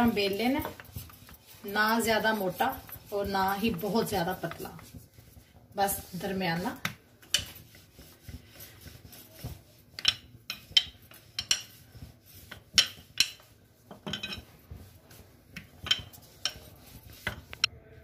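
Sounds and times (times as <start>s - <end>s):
rolling pin rubbing dough: 0.0s - 17.7s.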